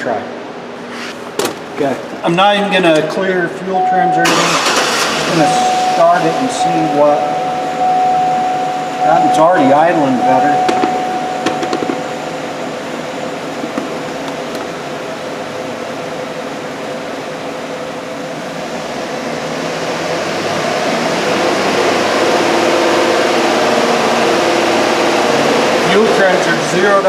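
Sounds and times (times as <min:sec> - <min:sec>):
car engine idling: 0:04.2 - 0:27.0.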